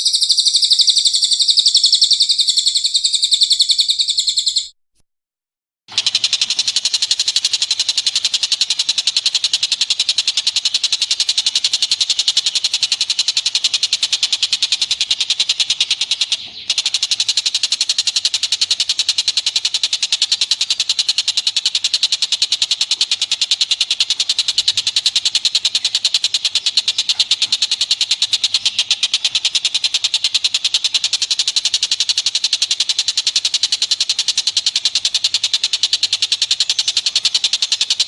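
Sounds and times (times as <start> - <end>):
high-pitched chattering animal call: 0.0 - 4.7, 5.9 - 38.0.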